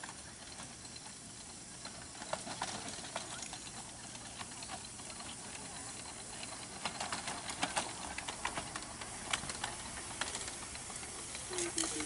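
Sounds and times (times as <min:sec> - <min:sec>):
faint steam hiss: 0:00.0 - 0:12.0
train wheels clicking over points: 0:00.0 - 0:12.0.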